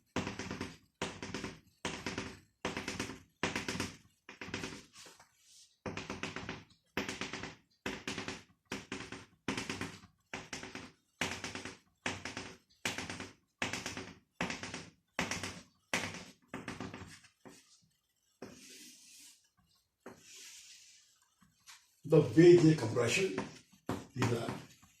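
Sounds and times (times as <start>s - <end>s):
pen drawing on a board: 0.0s - 25.0s.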